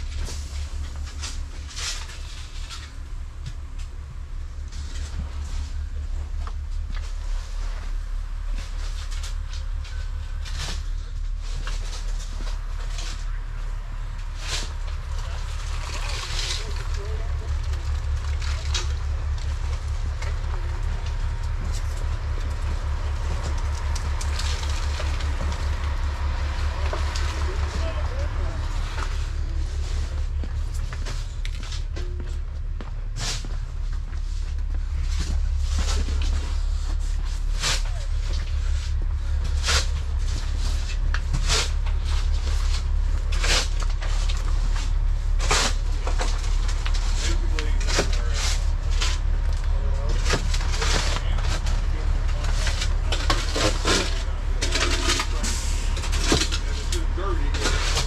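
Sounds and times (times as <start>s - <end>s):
debris rustling underfoot: 0.0s - 58.0s
pulsing mechanical rumble: 0.0s - 58.0s.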